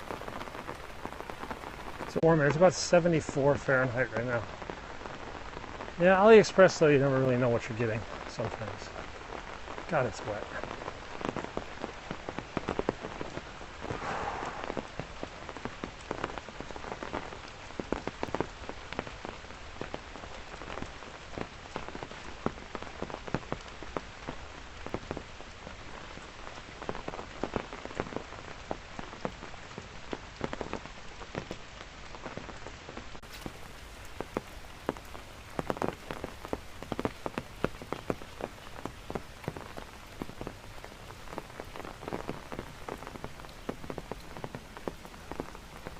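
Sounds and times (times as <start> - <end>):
rain falling: 0.0 - 45.9
raindrops pattering close by: 0.0 - 45.9.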